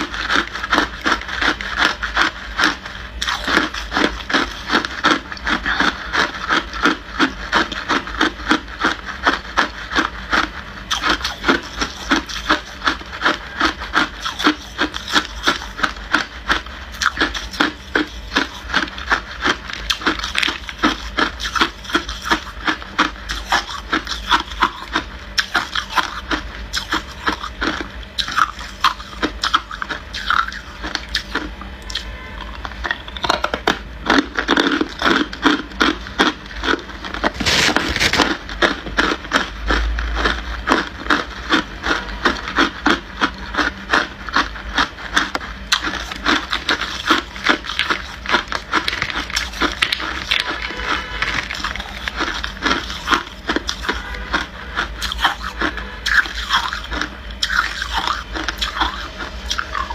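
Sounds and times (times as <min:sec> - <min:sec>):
person chewing ice: 0:00.0 - 0:59.9.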